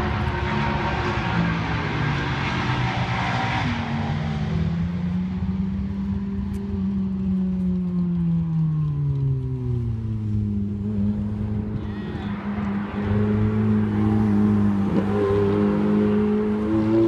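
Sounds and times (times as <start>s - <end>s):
sports car engine driving past: 0.0s - 17.0s.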